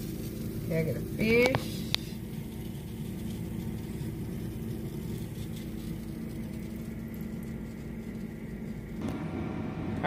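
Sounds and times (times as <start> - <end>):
appliance motor hum: 0.0 - 10.0.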